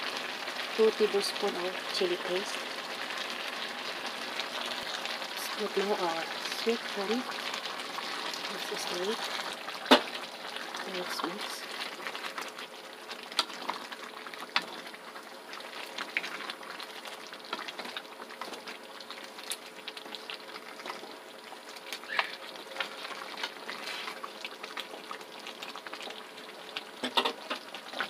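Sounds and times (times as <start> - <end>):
stew simmering and bubbling: 0.0 - 28.0.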